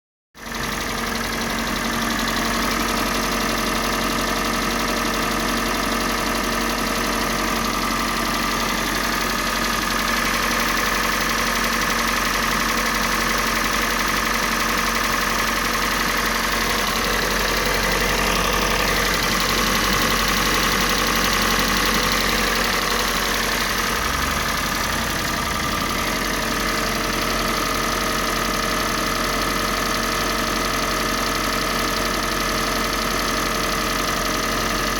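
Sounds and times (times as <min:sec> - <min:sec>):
car engine idling: 0:00.4 - 0:34.9
engine knock: 0:00.4 - 0:34.9.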